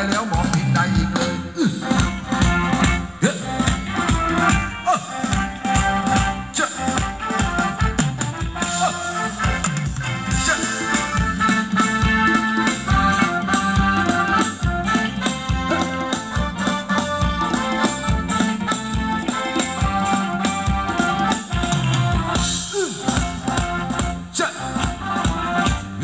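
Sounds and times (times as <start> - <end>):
drum kit steady beat: 0.0 - 26.0
electric keyboard: 0.0 - 26.0.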